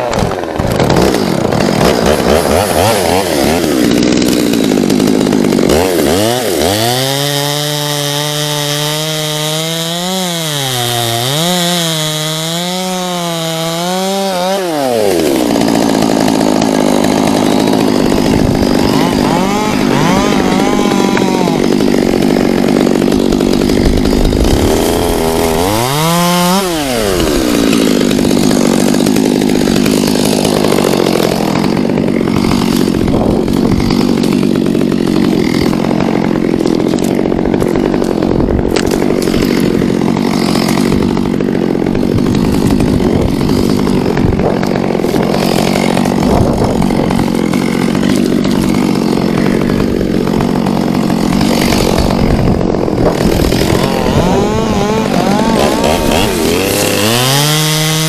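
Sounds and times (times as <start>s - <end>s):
chainsaw cutting at high revs: 0.0s - 58.0s.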